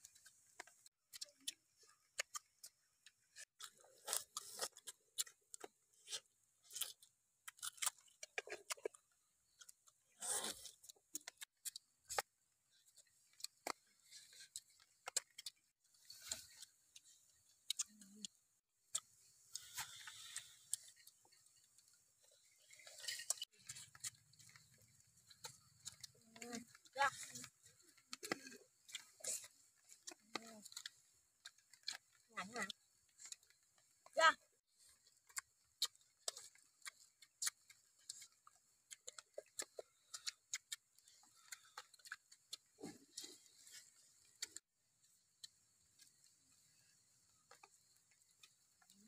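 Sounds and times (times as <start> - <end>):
people chewing meat: 0.0 - 49.0.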